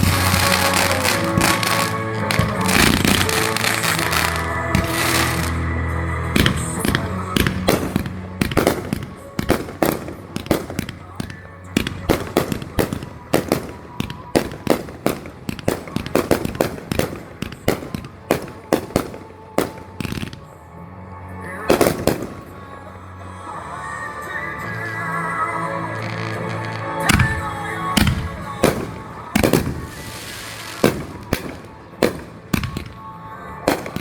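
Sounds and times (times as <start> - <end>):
firework bangs: 0.0 - 20.6, 21.7 - 22.9, 24.6 - 34.0
music: 0.0 - 34.0.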